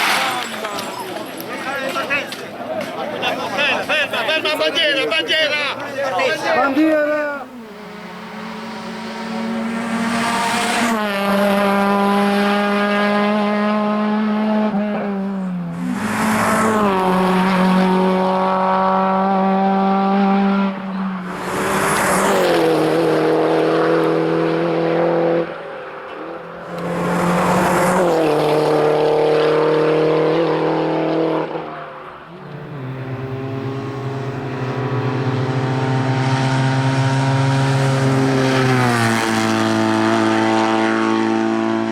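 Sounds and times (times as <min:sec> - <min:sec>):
racing car engine at high revs: 0:07.6 - 0:41.9.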